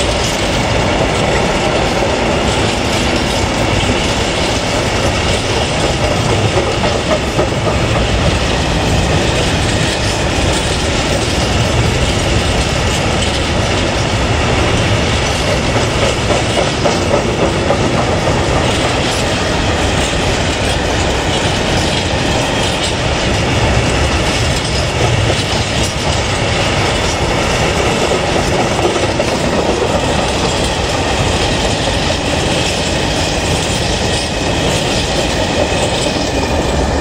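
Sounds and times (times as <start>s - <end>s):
freight train rolling past: 0.0s - 37.0s
wheels clacking over rails: 0.0s - 37.0s.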